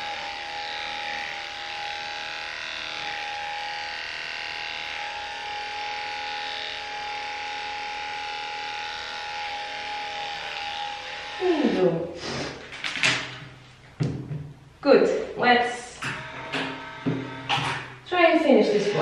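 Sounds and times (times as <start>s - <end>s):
pet clippers humming: 0.0s - 13.4s, 15.7s - 19.0s.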